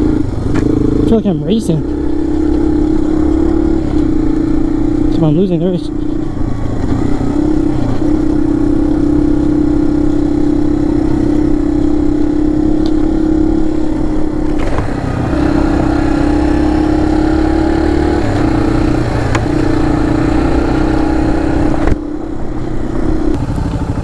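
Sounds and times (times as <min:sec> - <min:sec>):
dirt bike engine running hard: 0:00.0 - 0:24.0.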